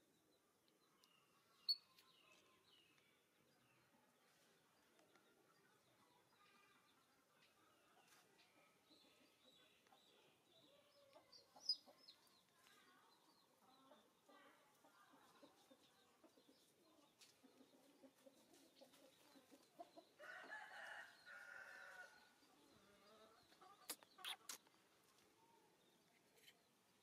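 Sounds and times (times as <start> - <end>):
faint chickens clucking: 0.0 - 27.0.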